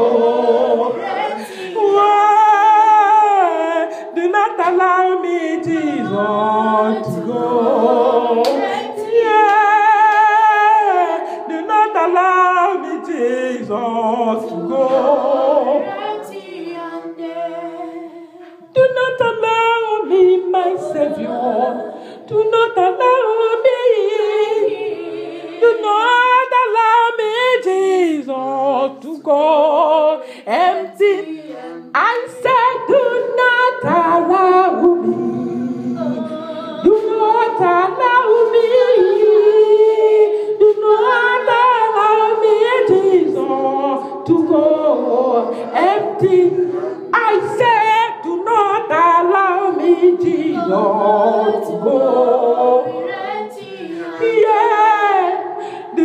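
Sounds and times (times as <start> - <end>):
person singing unaccompanied: 0.0 - 17.8, 18.7 - 56.0.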